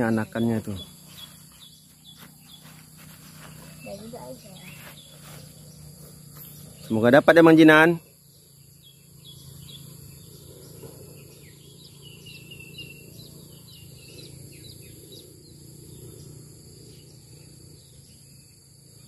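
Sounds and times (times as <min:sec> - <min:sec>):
high insect drone: 0:00.0 - 0:19.0
low steady rumble: 0:00.0 - 0:19.0
small birds chirping: 0:00.0 - 0:19.0.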